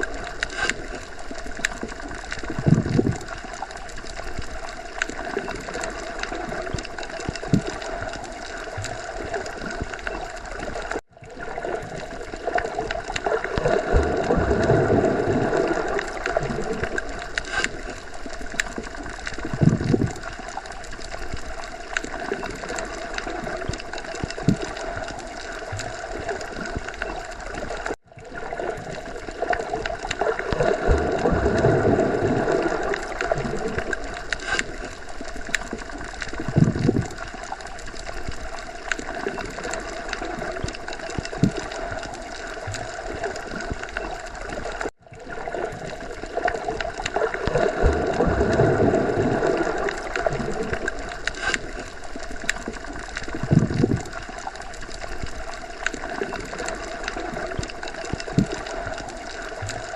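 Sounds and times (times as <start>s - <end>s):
low water rush: 0.0s - 59.9s
muffled underwater gurgling: 0.0s - 59.9s.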